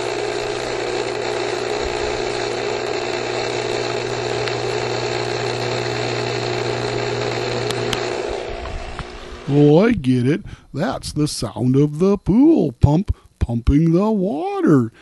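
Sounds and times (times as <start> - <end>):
pool pump humming: 0.0 - 15.0.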